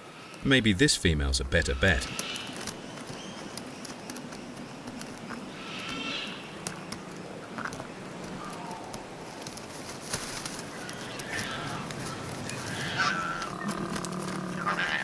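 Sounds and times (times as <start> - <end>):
claws scratching on bark: 1.9 - 15.0.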